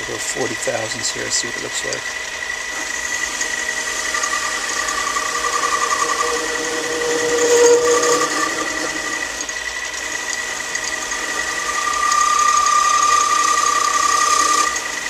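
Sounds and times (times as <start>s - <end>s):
metal lathe whine with cutting hiss: 0.0s - 15.0s.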